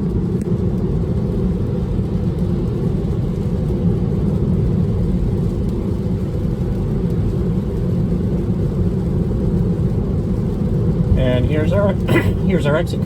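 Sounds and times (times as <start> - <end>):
tyre and road noise in car cabin: 0.0 - 13.0.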